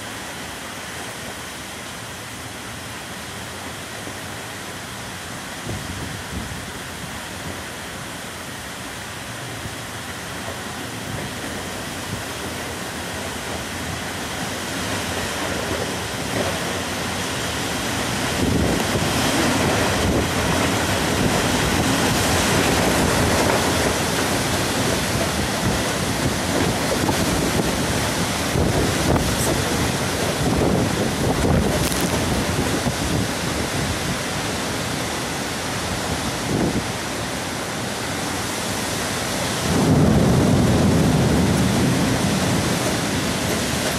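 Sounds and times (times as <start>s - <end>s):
heavy rain: 0.0s - 43.9s
wind gusts: 0.0s - 43.9s.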